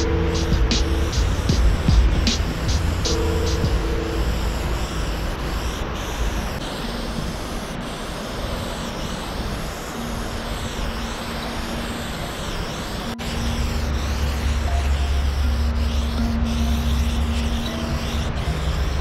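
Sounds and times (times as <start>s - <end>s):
spray paint can hissing: 0.0s - 19.0s.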